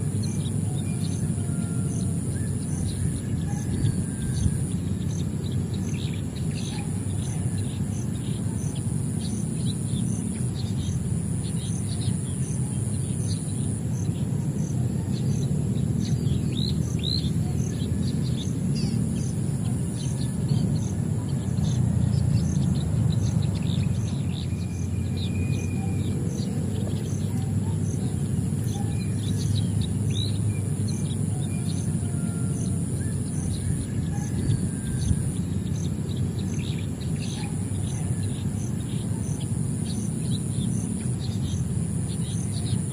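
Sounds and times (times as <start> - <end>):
small birds chirping: 0.0 - 42.9
steady low rumble: 0.0 - 42.9.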